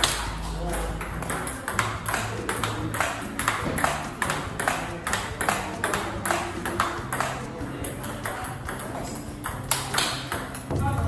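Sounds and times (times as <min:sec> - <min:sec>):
ping pong ball clicking off bats: 0:00.0 - 0:10.7
ball bouncing on table: 0:00.0 - 0:10.9.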